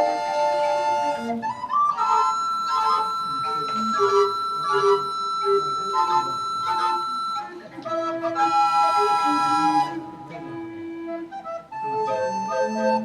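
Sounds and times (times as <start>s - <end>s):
recorder ensemble playing: 0.0s - 13.0s.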